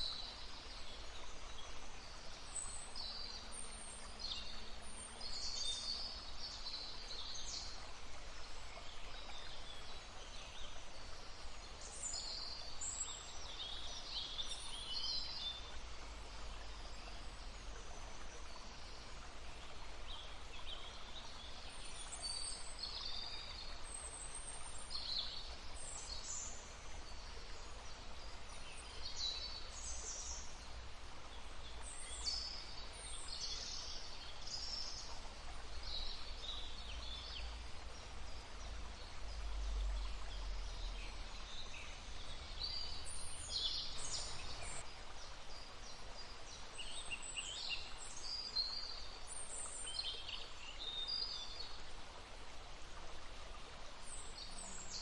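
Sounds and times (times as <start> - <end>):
songbirds chirping and trilling: 0.0 - 51.8
babbling stream: 0.0 - 55.0.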